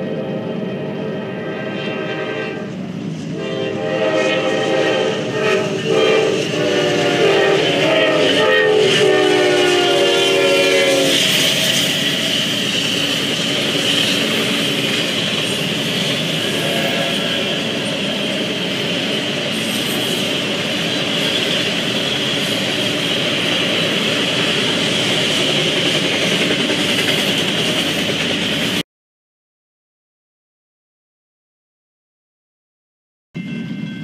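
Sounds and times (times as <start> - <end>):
train wheels running on rails: 0.0 - 28.8.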